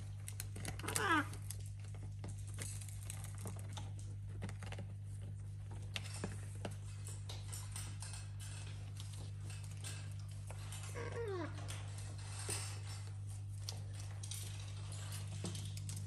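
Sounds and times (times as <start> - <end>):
parrots clicking toys: 0.0 - 16.0.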